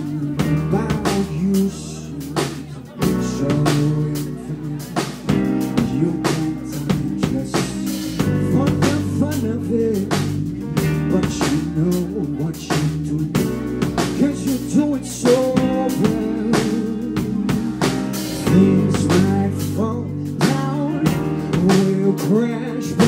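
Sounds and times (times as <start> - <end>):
drum kit steady beat: 0.0 - 23.0
live band playing: 0.0 - 23.0.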